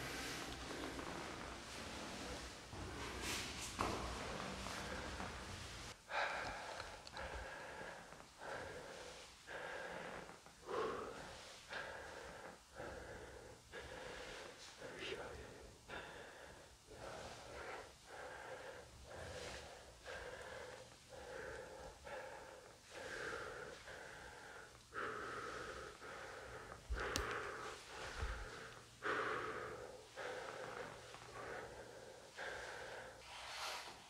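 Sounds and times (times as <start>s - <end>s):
person breathing quickly: 0.0s - 34.0s.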